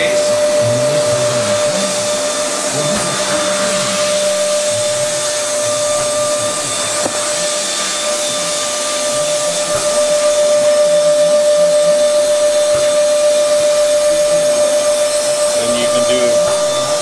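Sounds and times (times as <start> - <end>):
machinery whine and hiss: 0.0 - 17.0.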